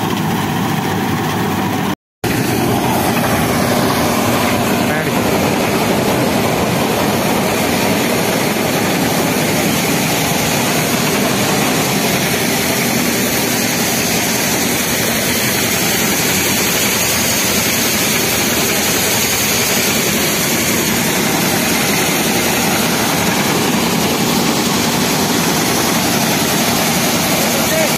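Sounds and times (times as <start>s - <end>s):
combine harvester drone: 0.0s - 27.9s.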